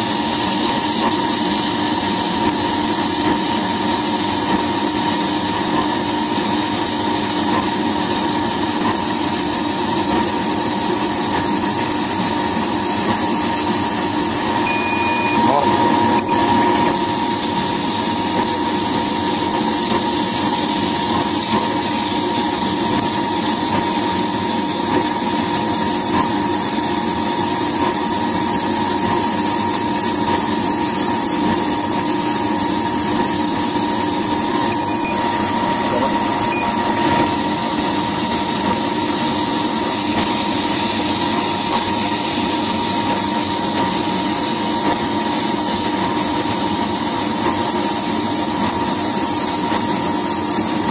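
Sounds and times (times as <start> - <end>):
laser cutting machine whine: 0.0 - 50.9.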